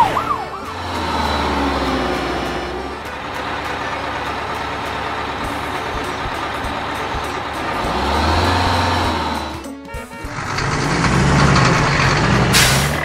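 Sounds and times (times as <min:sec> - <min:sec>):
large vehicle engine humming: 0:00.0 - 0:13.0.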